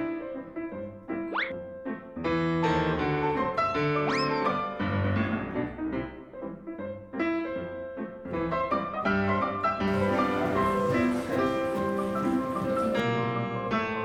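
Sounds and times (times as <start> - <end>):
grand piano melody: 0.8 - 14.0.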